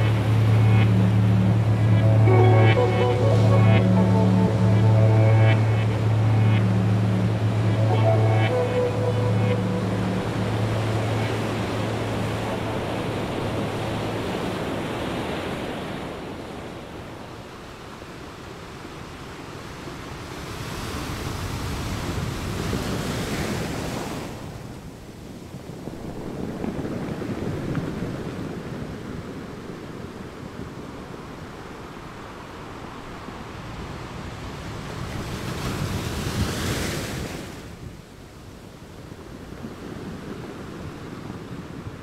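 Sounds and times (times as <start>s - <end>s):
waves washing on shore: 0.0s - 42.0s.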